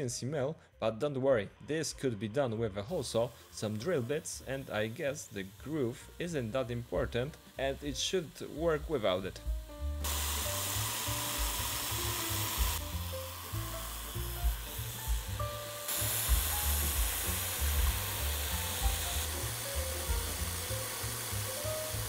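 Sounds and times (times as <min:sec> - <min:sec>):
background music with low beat: 0:00.0 - 0:22.0
milling machine cutting steel hiss: 0:02.8 - 0:22.0.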